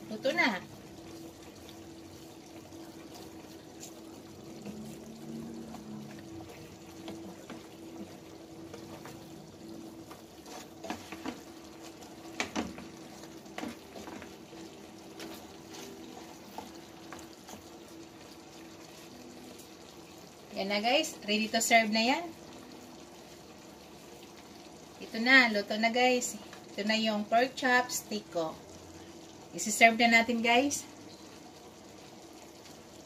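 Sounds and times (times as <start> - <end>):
sauce bubbling in a frying pan: 0.0 - 33.0.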